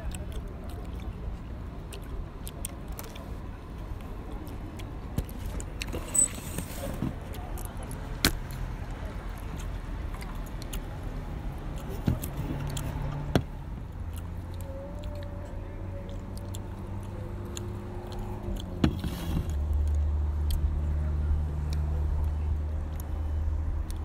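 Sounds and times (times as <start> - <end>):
car engine humming: 0.0 - 24.0.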